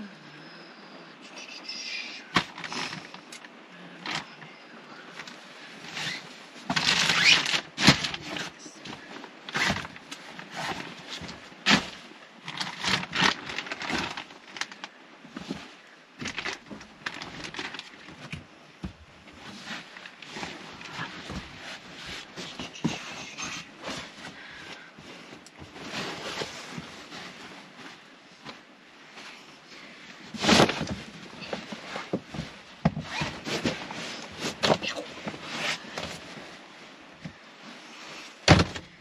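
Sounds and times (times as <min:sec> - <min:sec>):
bedding and bags rustling: 0:02.3 - 0:39.0.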